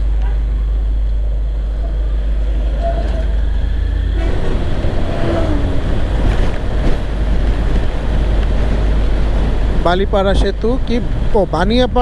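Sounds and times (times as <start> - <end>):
motorcycle engine rumble: 0.0 - 12.0
wind buffeting microphone: 0.4 - 12.0.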